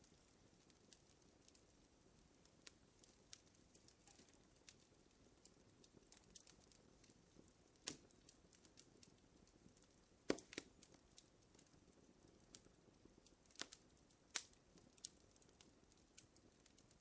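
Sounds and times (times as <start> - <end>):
wood fire crackling: 0.0 - 17.0
loud fire pops: 2.6 - 17.0.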